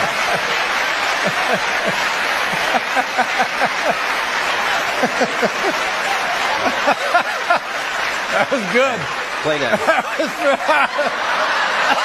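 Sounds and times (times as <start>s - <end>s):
audience clapping: 0.0s - 12.0s
bursts of laughter: 0.0s - 12.0s.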